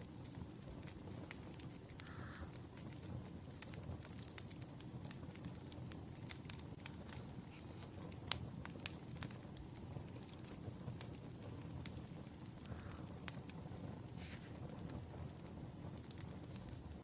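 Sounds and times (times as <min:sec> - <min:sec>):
burning logs rumbling: 0:00.0 - 0:17.0
wood fire popping and snapping: 0:00.0 - 0:17.0.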